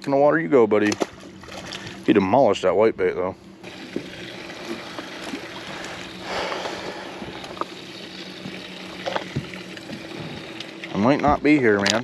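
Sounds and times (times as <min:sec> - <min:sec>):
faint steady hum: 0:00.0 - 0:12.0
waves lapping against boat hull: 0:00.7 - 0:02.4, 0:03.6 - 0:12.0.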